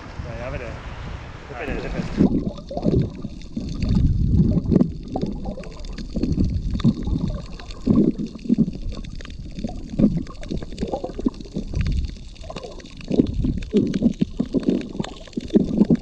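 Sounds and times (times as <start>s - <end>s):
muffled underwater sloshing: 1.6s - 16.0s.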